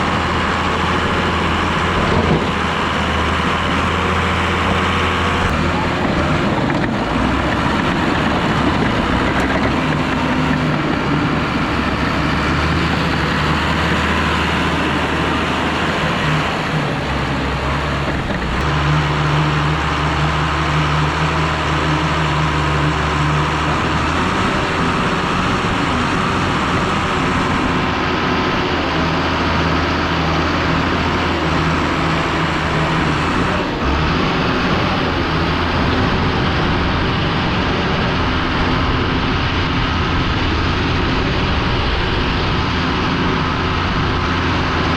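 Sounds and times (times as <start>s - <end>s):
diesel engine of heavy machinery: 0.0s - 44.9s.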